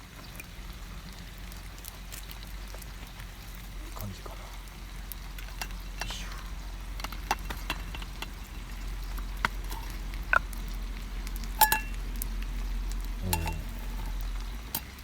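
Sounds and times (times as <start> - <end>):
camp cookware clinking: 1.8 - 15.0.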